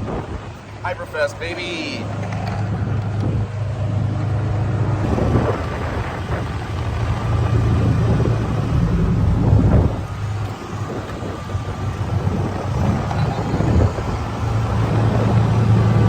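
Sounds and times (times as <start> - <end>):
wind rumbling on microphone: 0.0 - 16.0
cart motor humming: 2.0 - 16.0.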